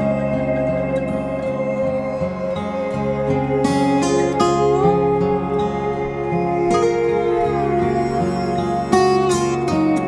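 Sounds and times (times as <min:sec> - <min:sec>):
calm new-age instrumental music: 0:00.0 - 0:10.0.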